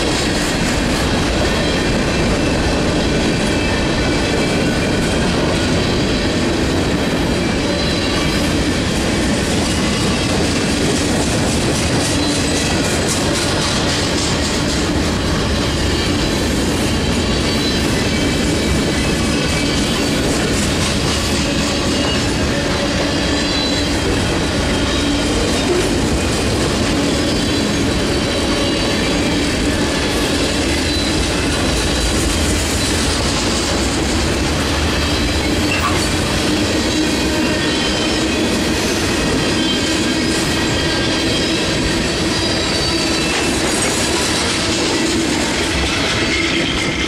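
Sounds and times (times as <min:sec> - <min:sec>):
train wheels clattering over track: 0:00.0 - 0:47.0.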